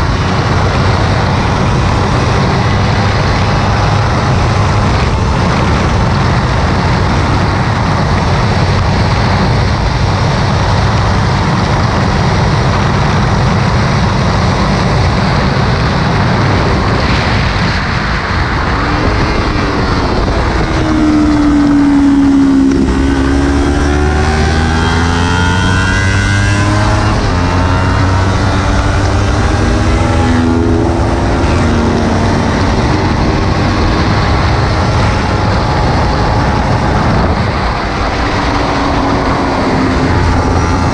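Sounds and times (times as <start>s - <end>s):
motorcycle engine revving: 0.0s - 40.9s
wind rush on microphone: 0.0s - 40.9s.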